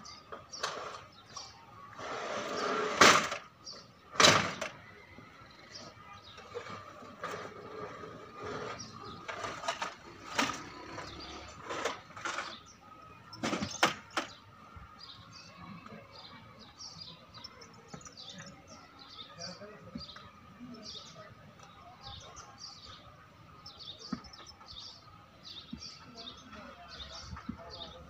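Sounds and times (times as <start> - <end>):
birds chirping faintly: 0.0 - 28.0.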